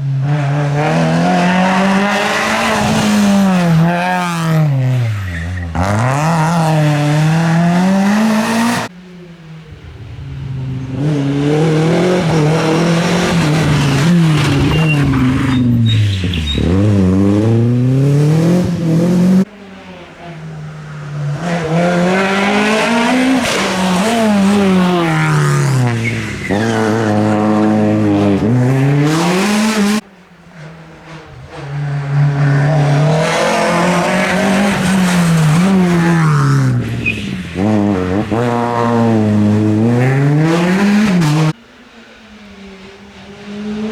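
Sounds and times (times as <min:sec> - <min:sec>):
rally car engines at full throttle: 0:00.0 - 0:43.9.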